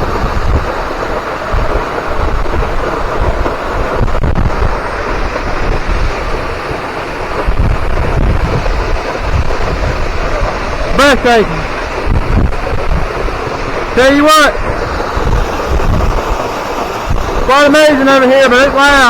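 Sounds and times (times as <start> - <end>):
waterfall rushing: 0.0 - 19.0
wind buffeting microphone: 0.0 - 19.0.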